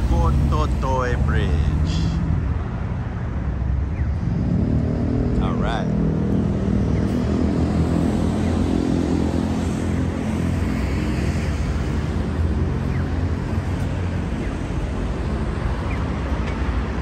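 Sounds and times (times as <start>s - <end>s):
rumble of vehicle engines: 0.0s - 17.0s.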